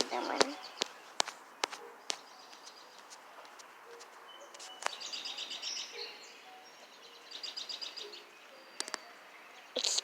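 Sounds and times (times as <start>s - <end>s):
faint outdoor hiss: 0.0s - 10.0s
songbird chirping: 0.0s - 10.0s.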